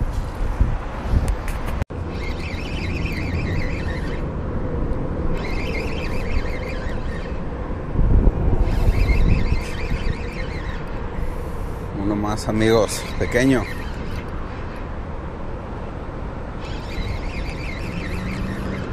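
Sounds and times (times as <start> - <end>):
wind rumbling on microphone: 0.0 - 18.9
fishing reel gears whirring: 2.0 - 15.1, 16.4 - 18.9.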